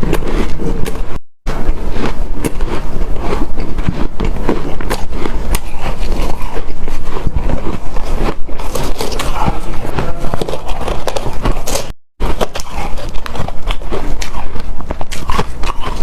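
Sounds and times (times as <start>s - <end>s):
crunching ice: 1.9s - 16.0s.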